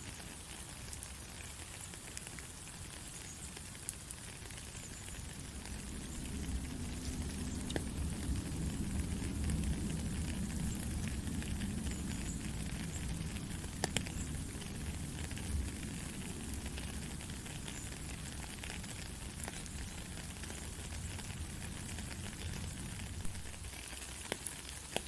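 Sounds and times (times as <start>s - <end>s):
heavy rain: 0.0s - 25.0s
sharp raindrop ticks: 0.0s - 25.0s.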